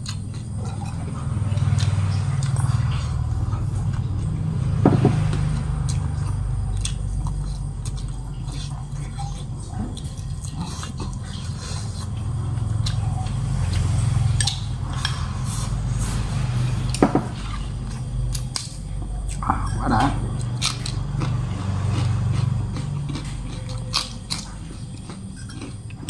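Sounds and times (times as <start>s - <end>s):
low hum: 0.0s - 26.0s
person chewing with open mouth: 0.0s - 26.0s.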